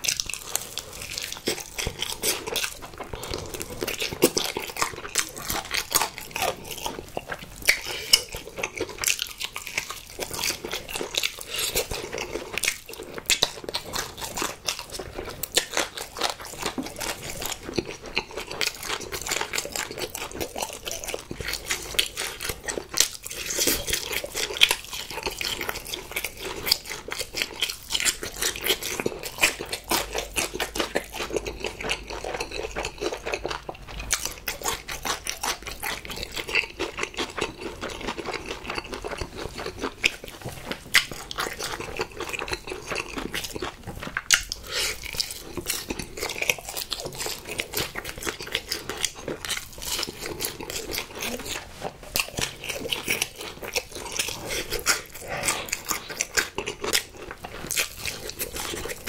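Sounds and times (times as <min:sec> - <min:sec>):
biting and chewing sounds: 0:00.0 - 0:59.0.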